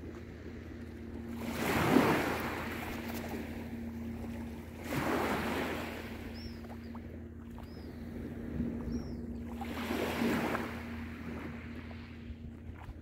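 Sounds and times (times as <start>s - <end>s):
small waves washing onto beach: 0.0s - 13.0s
steady low hum: 0.0s - 13.0s.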